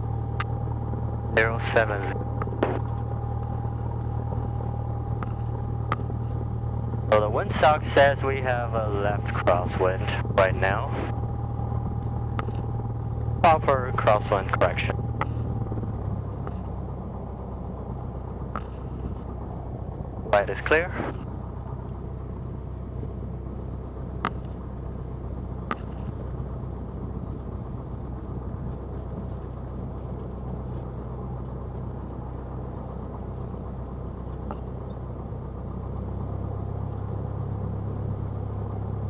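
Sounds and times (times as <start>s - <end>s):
aircraft propeller engine droning: 0.0s - 39.0s.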